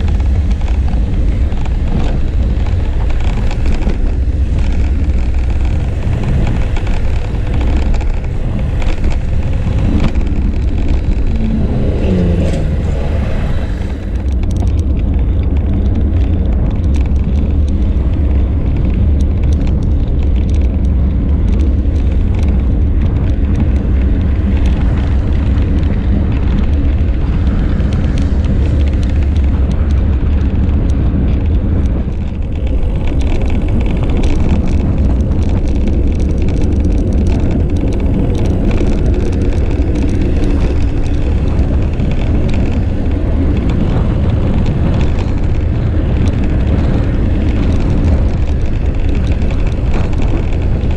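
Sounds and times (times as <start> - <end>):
passing vehicle: 0.0 - 50.9
wind rumbling on microphone: 0.0 - 50.9.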